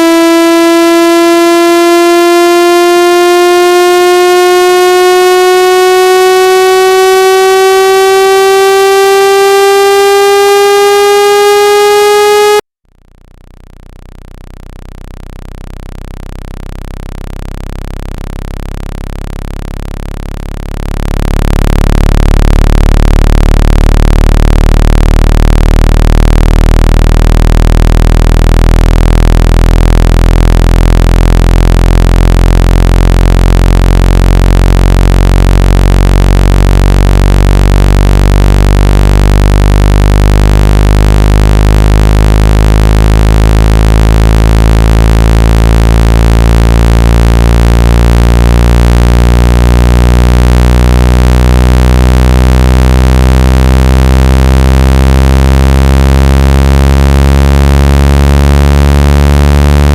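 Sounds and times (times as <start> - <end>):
buzzy tone rising in pitch: 0.0 - 12.6, 13.2 - 59.9
low buzzing tone: 0.0 - 59.9.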